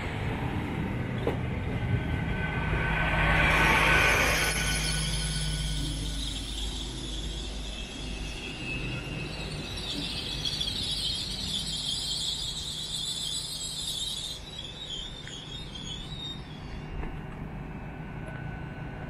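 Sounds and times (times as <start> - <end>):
train rumble: 0.0 - 19.0
metallic wheel squeal: 1.7 - 17.3.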